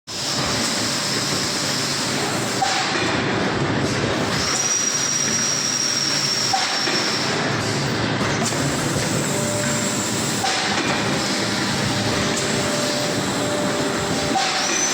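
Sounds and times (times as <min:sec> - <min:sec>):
machine running: 0:00.1 - 0:14.9.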